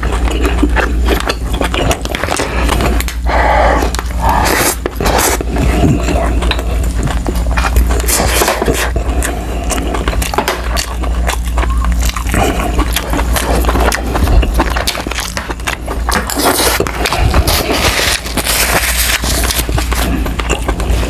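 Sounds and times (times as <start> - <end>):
chewing: 0.0 - 21.0
steady low hum: 0.0 - 21.0.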